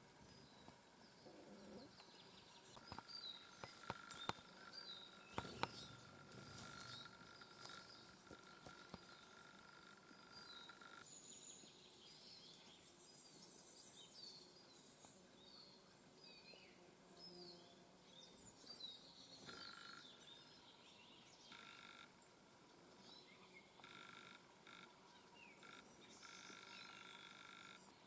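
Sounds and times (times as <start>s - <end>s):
low buzzy bird notes: 0.0s - 28.0s
songbirds chirping: 0.0s - 28.0s.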